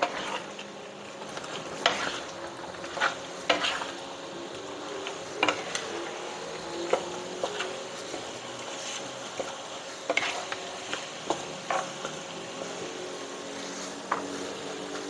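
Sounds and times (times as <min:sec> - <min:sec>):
curry sizzling: 0:00.0 - 0:15.0
spatula scraping pan: 0:00.0 - 0:15.0.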